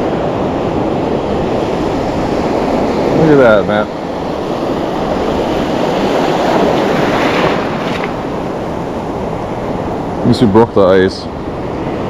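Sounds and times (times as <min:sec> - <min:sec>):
ocean surf washing on shore: 0:00.0 - 0:12.0
wind buffeting microphone: 0:00.0 - 0:12.0.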